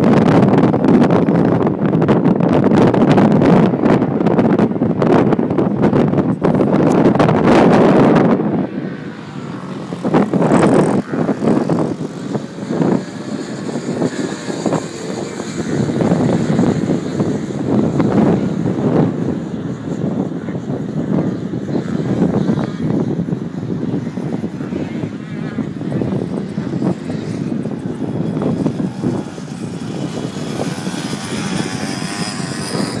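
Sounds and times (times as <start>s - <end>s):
quad bike engines passing: 0.0s - 33.0s.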